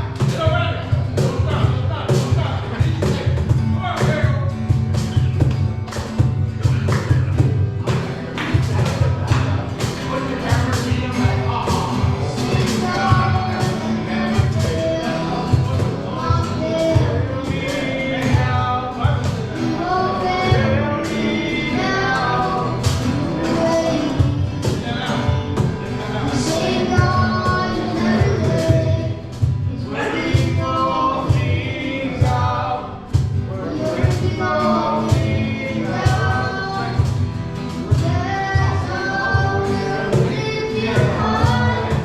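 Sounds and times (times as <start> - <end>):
steady drum beat: 0.0 - 42.0
voices singing: 0.0 - 42.0
worship band playing: 0.0 - 42.0.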